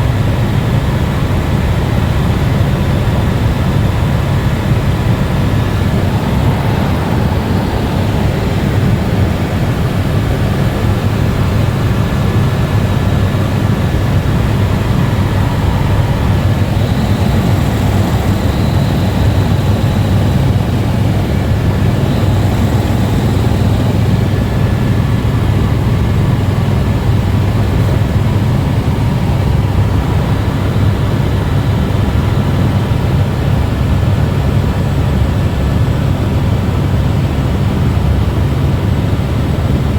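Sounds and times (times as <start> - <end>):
helicopter engine and rotor drone: 0.0 - 39.9
faint high whine: 0.1 - 32.8.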